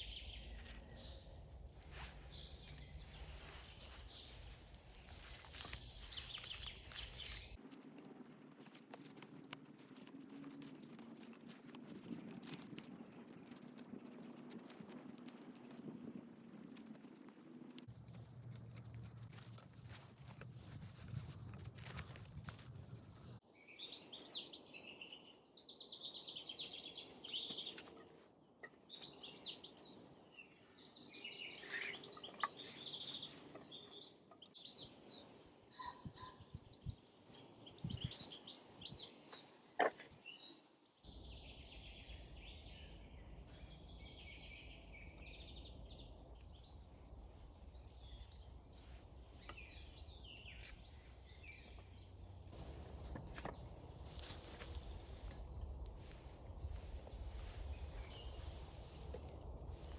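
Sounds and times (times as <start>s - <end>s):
songbirds singing and chirping: 0.0s - 19.7s, 20.4s - 59.9s.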